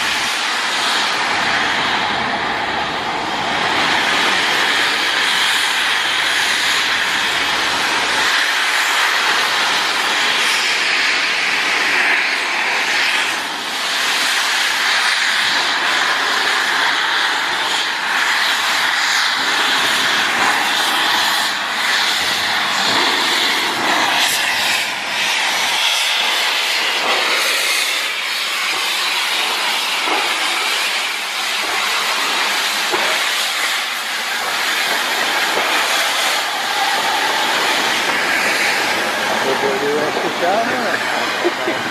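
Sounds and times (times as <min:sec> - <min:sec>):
steam locomotive hissing steam: 0:00.0 - 0:41.9.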